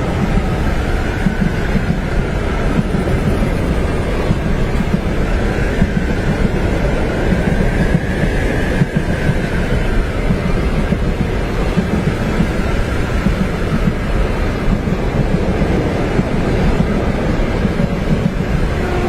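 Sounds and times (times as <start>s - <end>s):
train rumbling on tracks: 0.0s - 19.0s.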